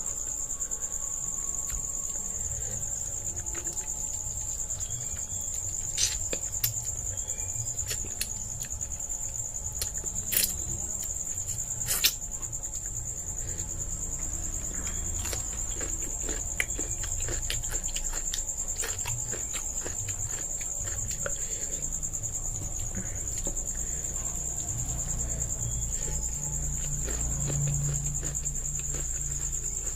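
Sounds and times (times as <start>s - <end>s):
crickets chirring: 0.0s - 29.9s
chewing: 1.4s - 29.9s.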